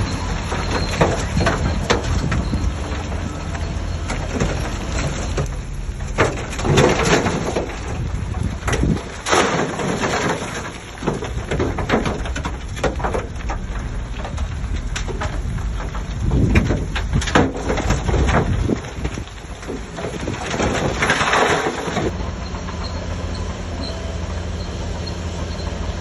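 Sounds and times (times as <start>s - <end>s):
bulldozer engine rumble: 0.0s - 26.0s.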